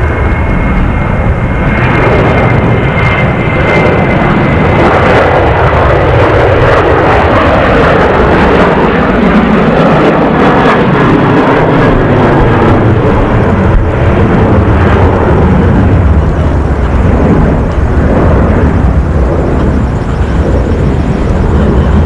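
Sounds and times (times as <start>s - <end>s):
jet engines at takeoff: 0.0s - 22.0s.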